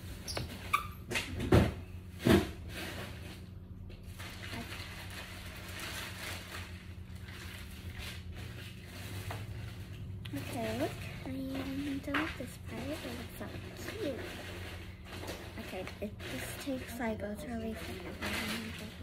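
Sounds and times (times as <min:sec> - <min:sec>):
handling knocks and rustles: 0:00.0 - 0:19.0.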